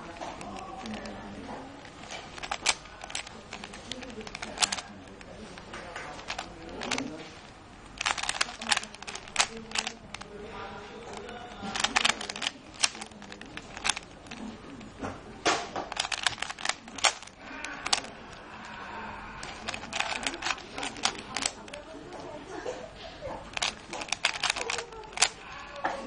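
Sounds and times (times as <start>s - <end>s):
puzzle cube clicking: 0.0s - 7.2s, 7.8s - 18.8s, 19.4s - 21.9s, 23.5s - 25.5s.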